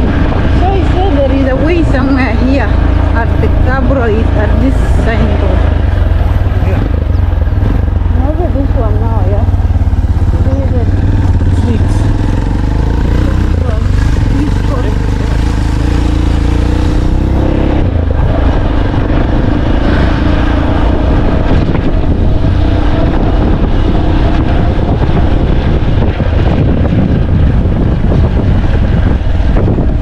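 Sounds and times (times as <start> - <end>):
car engine running: 0.0 - 30.0
tyre and wind noise: 0.0 - 30.0.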